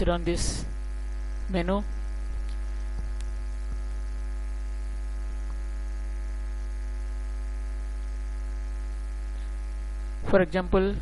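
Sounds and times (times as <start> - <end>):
low electrical mains hum: 0.0 - 11.0.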